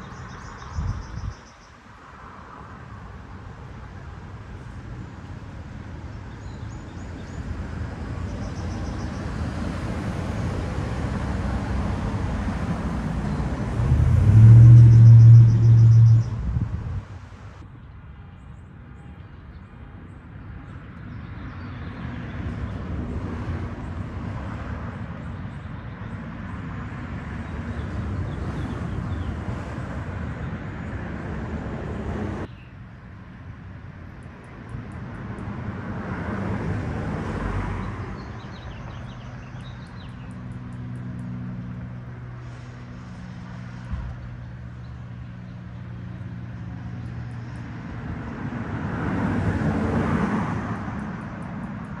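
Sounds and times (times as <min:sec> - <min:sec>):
cars passing: 0:00.0 - 0:17.6, 0:20.5 - 0:52.0
hum of cars: 0:00.0 - 0:52.0.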